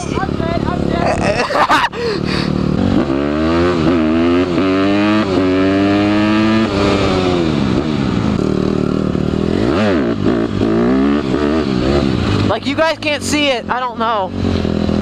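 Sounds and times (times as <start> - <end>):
dirt bike engine accelerating: 0.0 - 15.0.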